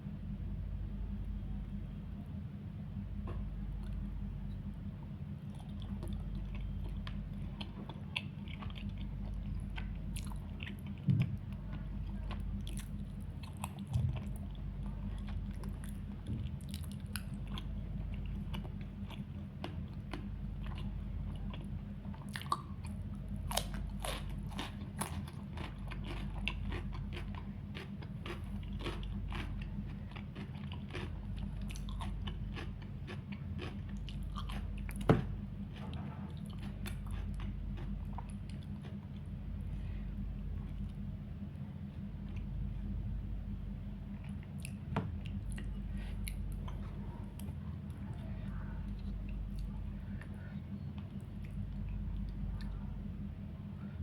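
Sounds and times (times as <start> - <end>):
steady low hum: 0.0 - 54.0
chewing and crunching food: 5.3 - 41.2, 41.8 - 54.0.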